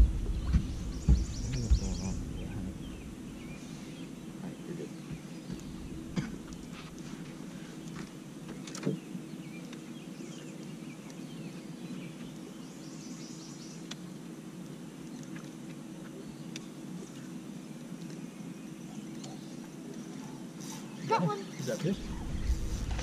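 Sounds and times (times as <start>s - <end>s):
birds chirping: 0.0s - 23.0s
steady low hum: 0.0s - 23.0s.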